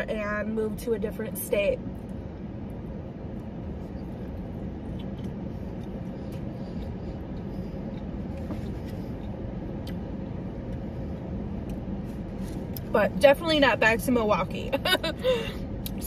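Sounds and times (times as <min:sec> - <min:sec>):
car cabin rumble: 0:00.0 - 0:16.0
faint steady hum: 0:00.0 - 0:16.0.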